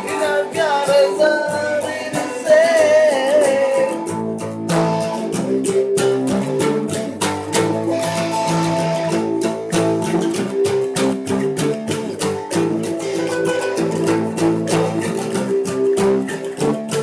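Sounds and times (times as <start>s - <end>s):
acoustic guitar: 0.0s - 17.0s
electric guitar: 0.0s - 17.0s.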